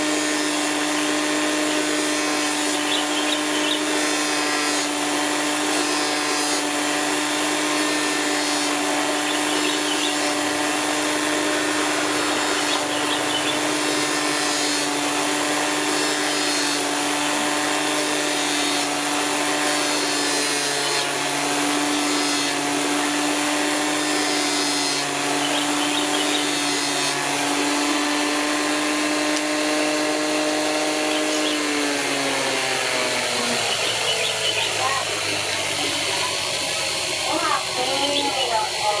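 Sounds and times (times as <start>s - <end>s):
grinding machine motor hum: 0.0s - 39.0s
stone grinding against wheel: 0.0s - 39.0s.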